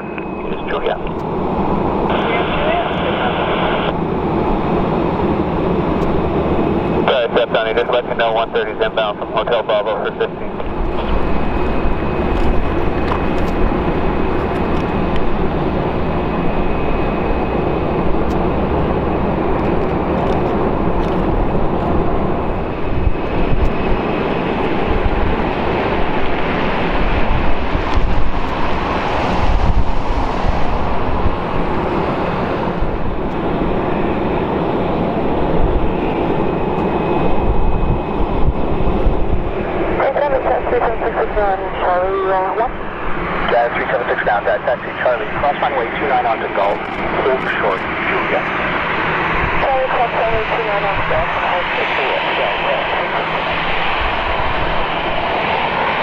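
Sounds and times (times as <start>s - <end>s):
jet aircraft rushing: 0.0s - 56.0s.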